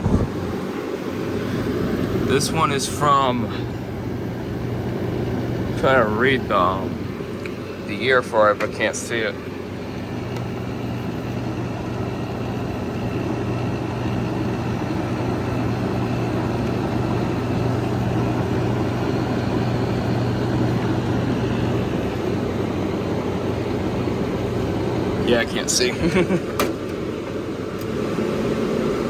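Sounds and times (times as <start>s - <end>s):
compressor hum: 0.0s - 29.0s
fan rushing: 0.0s - 29.0s.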